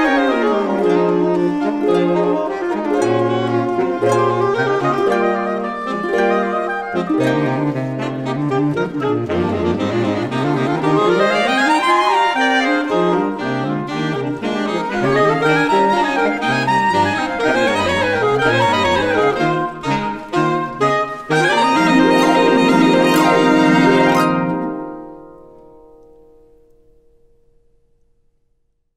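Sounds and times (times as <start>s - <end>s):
saxophone ensemble playing: 0.0s - 25.2s.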